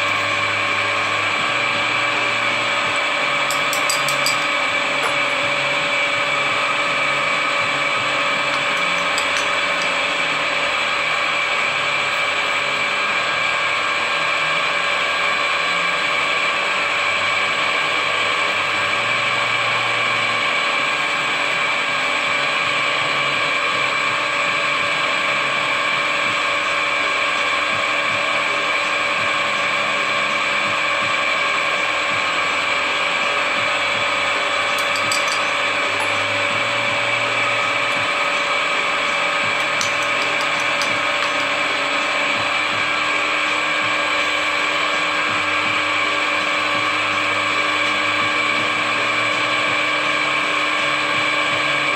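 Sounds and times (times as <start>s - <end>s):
drill press whining: 0.0s - 51.9s.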